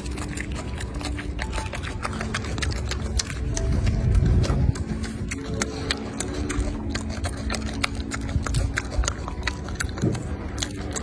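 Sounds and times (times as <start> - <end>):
monkey chewing with wet smacks: 0.0 - 11.0.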